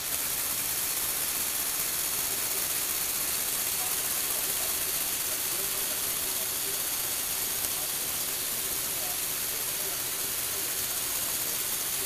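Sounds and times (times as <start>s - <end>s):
small electric motors whirring: 0.0s - 12.0s
steady high hiss: 0.0s - 12.0s.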